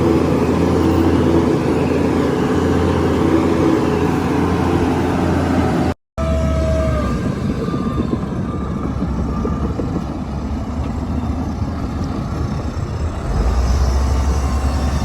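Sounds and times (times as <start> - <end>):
diesel machinery rumble: 0.0 - 15.0.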